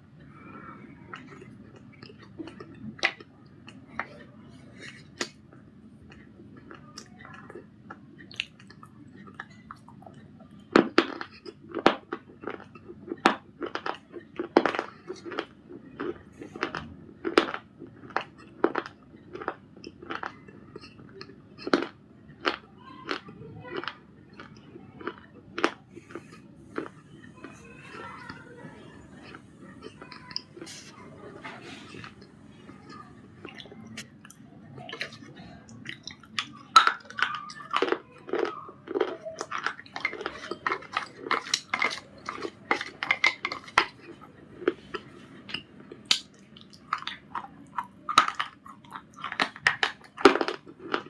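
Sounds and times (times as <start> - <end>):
biting and chewing biscuits: 0.1 - 51.0.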